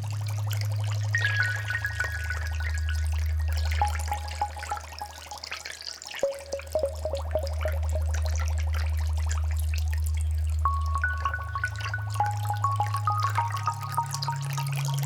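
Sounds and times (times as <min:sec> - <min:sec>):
water dripping and trickling: 0:00.0 - 0:15.0
ambient music notes: 0:00.9 - 0:15.0.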